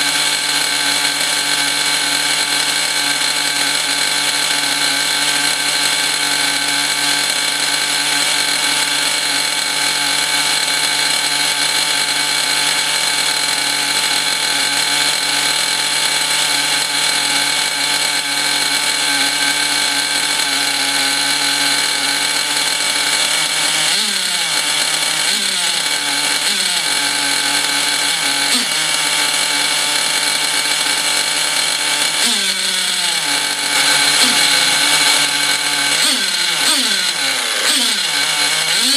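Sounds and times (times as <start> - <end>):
model engine running at high speed: 0.0 - 38.9.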